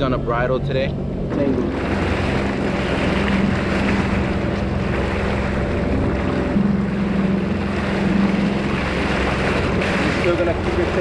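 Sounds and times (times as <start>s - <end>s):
jet ski engine running: 0.0s - 11.0s
water splashing: 0.0s - 11.0s.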